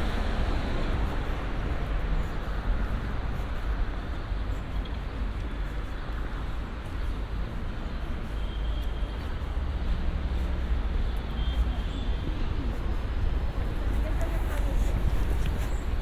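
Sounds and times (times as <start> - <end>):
road traffic hum: 0.0 - 16.0.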